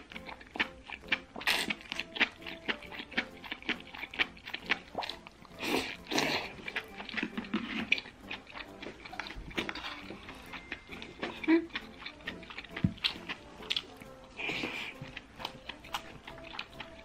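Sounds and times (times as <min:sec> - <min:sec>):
wet chewing and lip-smacking: 0:00.0 - 0:17.0
slurp: 0:00.6 - 0:17.0.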